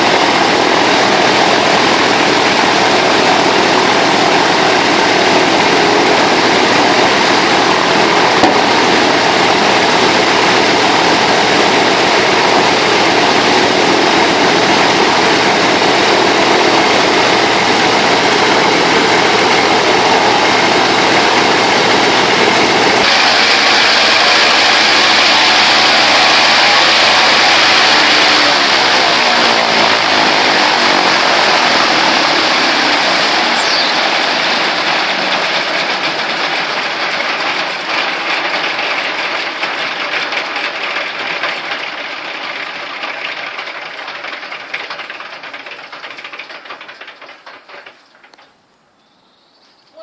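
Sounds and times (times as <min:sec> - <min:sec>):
radial aircraft engine running: 0:00.0 - 0:48.4.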